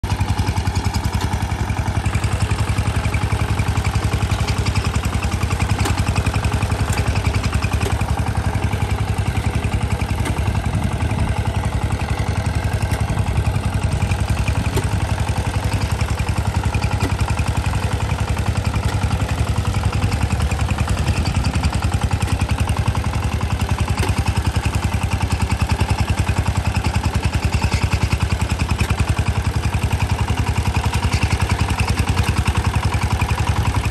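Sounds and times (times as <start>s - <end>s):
diesel engine chugging: 0.0s - 33.9s.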